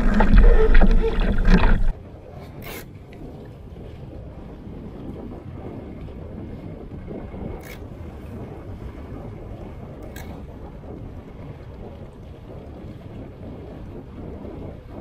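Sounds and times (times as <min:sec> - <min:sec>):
water rushing along boat hull: 0:00.0 - 0:15.0
wind rumbling on microphone: 0:00.0 - 0:15.0.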